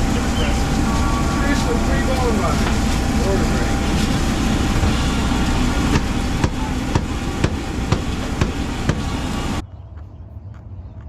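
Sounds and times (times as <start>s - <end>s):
vehicle running rumble: 0.0s - 11.0s.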